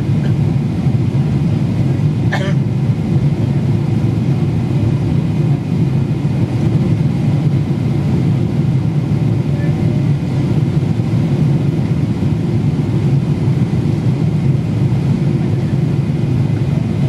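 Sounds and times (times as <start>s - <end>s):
airplane cabin noise: 0.0s - 17.0s.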